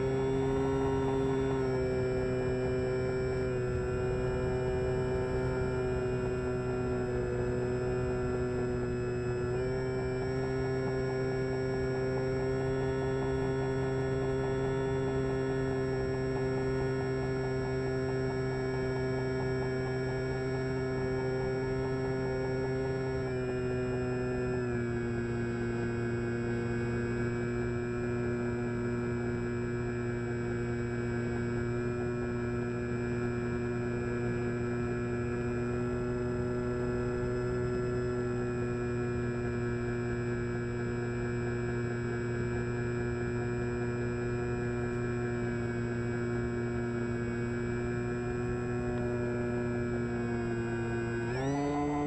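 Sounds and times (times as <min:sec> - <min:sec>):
electric motor and propeller humming: 0:00.0 - 0:52.0.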